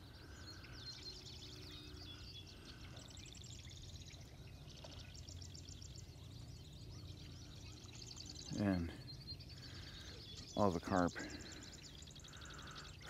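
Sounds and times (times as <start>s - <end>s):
birds chirping and trilling: 0.0s - 13.0s
low steady hum: 0.0s - 13.0s.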